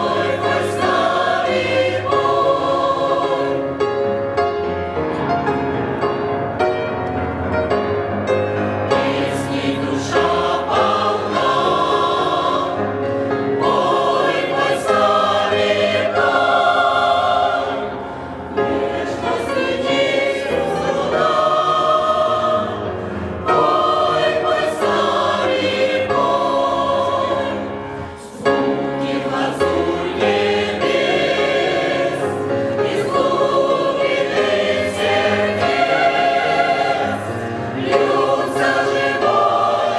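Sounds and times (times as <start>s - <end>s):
choir breaths: 0.0s - 3.8s, 9.0s - 39.9s
choir singing a hymn: 0.0s - 6.4s, 8.4s - 39.9s.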